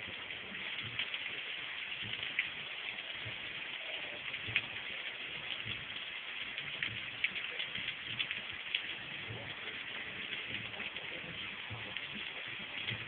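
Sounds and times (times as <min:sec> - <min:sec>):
rain on pavement: 0:00.0 - 0:13.0
raindrops tapping close by: 0:00.0 - 0:13.0.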